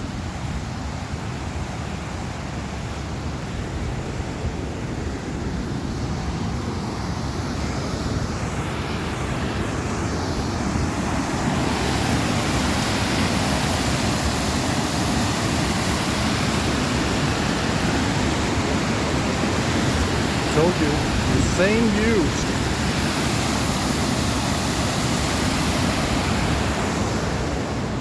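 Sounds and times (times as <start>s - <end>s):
waterfall roaring: 1.1s - 28.0s.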